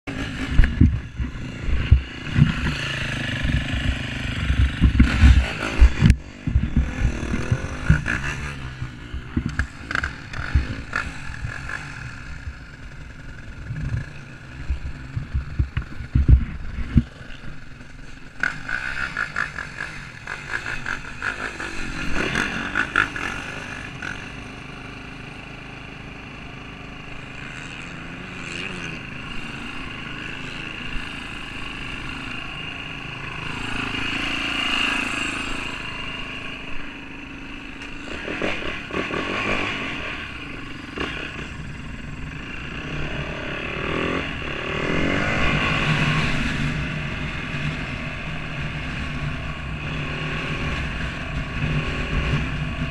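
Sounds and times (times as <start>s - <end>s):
motocross bike engines revving: 0.1s - 52.9s.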